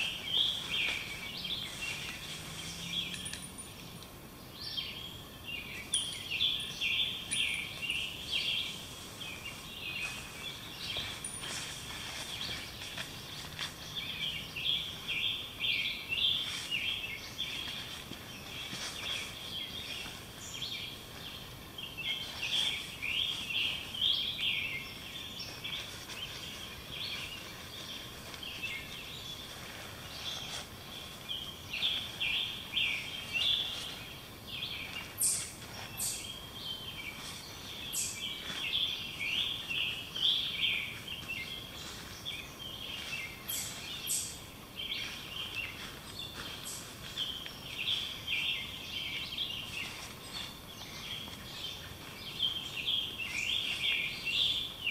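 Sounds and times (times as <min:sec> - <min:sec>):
songbirds chirping: 0:00.0 - 0:54.9
steady background hiss: 0:00.0 - 0:54.9.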